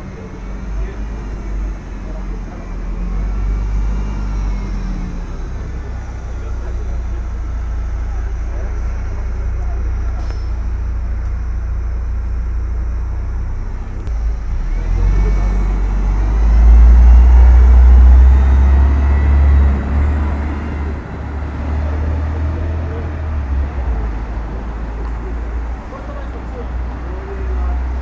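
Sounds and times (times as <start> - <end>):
bus engine rumble: 0.0 - 28.0
faint rising whine: 0.0 - 28.0.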